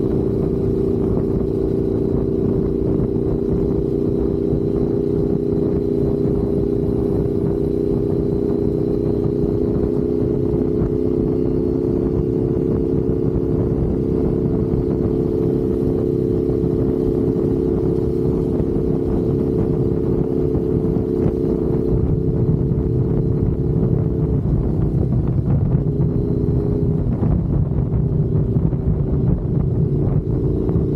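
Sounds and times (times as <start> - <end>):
motorcycle engine running: 0.0 - 30.9
road and wind noise: 0.0 - 30.9.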